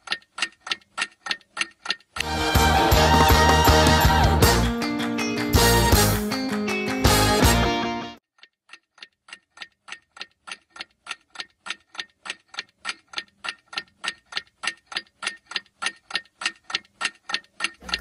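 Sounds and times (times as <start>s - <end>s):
clock ticking: 0.0s - 4.8s, 8.3s - 18.0s.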